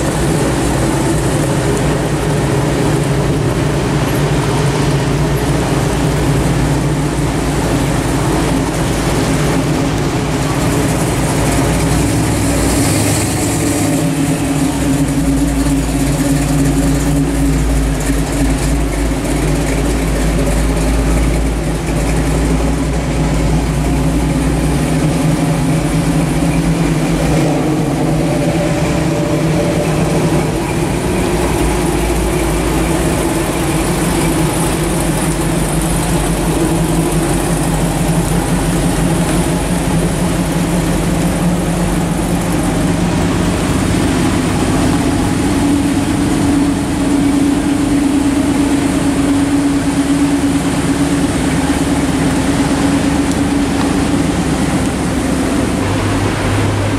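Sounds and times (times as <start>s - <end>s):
car engines rumbling past: 0.0s - 56.9s.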